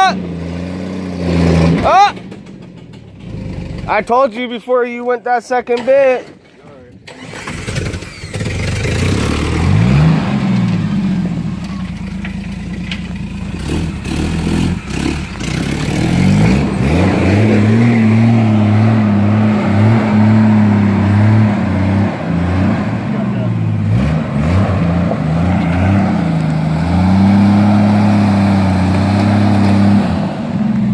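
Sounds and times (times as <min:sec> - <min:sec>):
engine revving under load: 0:00.0 - 0:02.6, 0:07.0 - 0:30.9.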